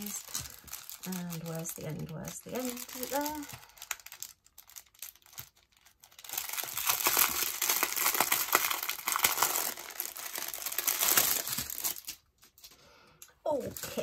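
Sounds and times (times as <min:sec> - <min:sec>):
plastic packaging crinkling: 0:00.0 - 0:12.9, 0:13.5 - 0:14.0.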